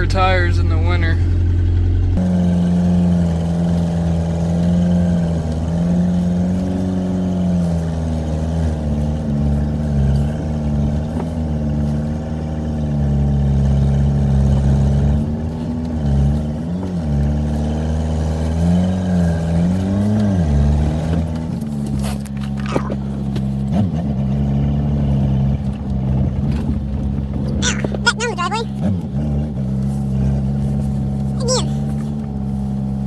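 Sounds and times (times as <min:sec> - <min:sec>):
diesel engine revving under load: 0:00.0 - 0:33.0.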